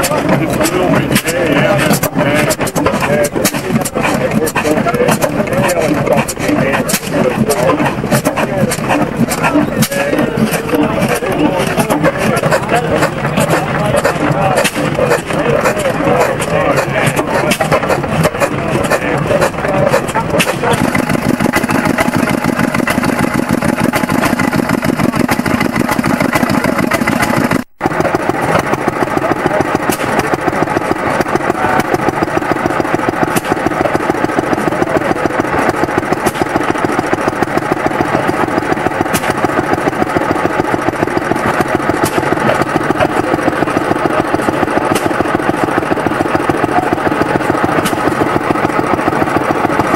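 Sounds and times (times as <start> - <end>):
stationary engines running: 0.0 - 49.9.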